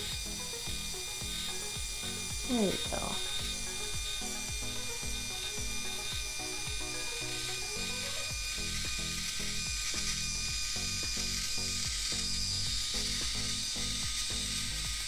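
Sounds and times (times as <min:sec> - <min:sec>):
hair crimper ratcheting clicks: 0:00.0 - 0:15.0.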